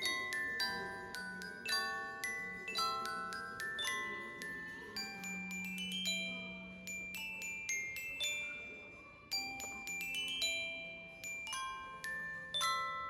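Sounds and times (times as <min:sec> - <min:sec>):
glockenspiel melody: 0:00.0 - 0:13.0.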